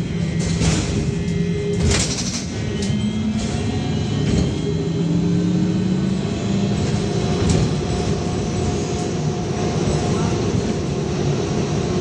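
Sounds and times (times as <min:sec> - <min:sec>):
trolleybus body and road rumble: 0:00.0 - 0:12.0.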